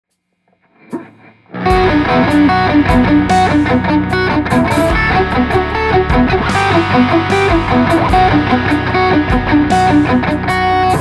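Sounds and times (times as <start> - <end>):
electric guitar lead melody: 0.6 - 11.0
backing track with bass and drums: 0.9 - 11.0.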